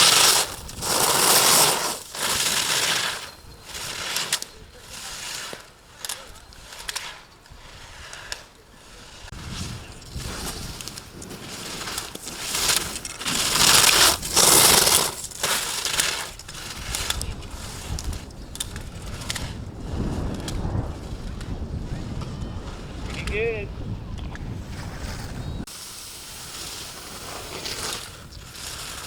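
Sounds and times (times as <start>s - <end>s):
skis scraping on hard snow: 0.0s - 29.0s.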